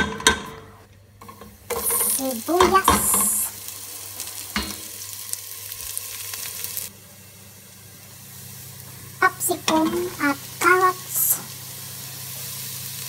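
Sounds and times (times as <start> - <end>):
onion sizzling in hot oil: 1.2 - 13.0.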